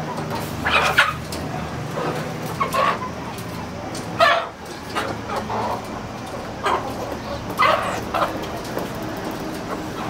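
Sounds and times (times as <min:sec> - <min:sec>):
chickens squawking and clucking: 0:00.0 - 0:10.0.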